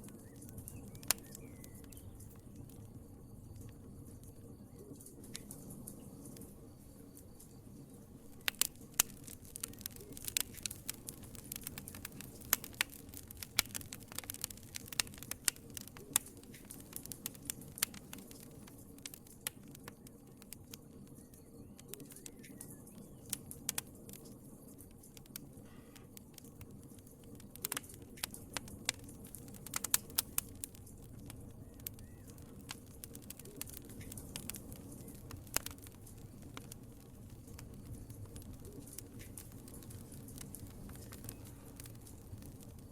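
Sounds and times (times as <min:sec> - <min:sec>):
low rumble of flames: 0:00.0 - 0:42.9
wood fire crackling and popping: 0:00.0 - 0:42.9.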